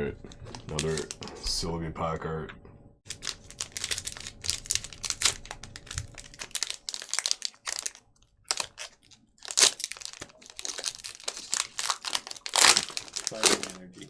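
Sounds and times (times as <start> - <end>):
foil wrapper crinkling and tearing: 0.4 - 1.2, 3.1 - 14.0.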